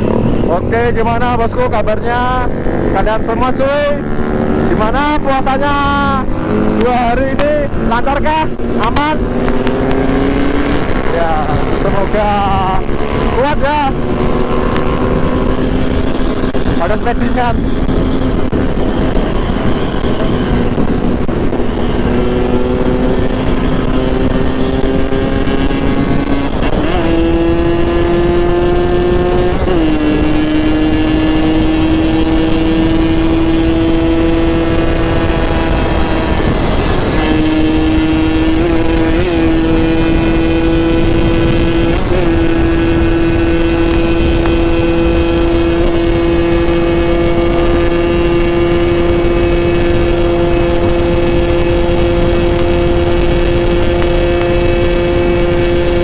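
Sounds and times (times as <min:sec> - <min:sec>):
two-stroke motorcycle engine buzzing: 0:00.0 - 0:56.0.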